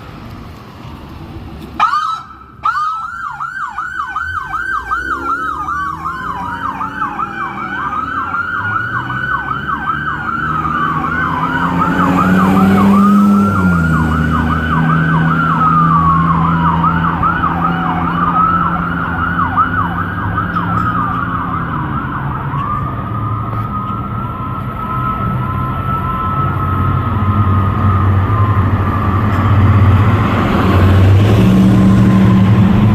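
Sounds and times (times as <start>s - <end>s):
vehicle engine drone: 0.0s - 32.9s
electronic sirens yelping and wailing: 1.8s - 32.9s.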